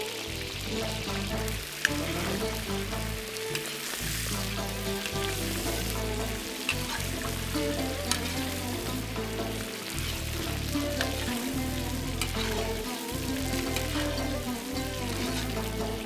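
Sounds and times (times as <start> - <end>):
background music: 0.0 - 16.0
meat sizzling in fat: 0.0 - 16.0.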